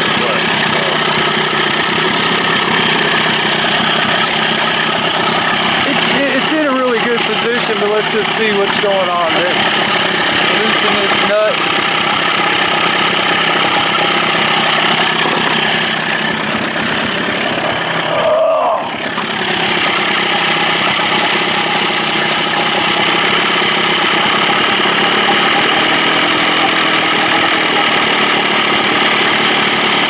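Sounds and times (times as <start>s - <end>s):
outboard motor idling: 0.0s - 30.0s.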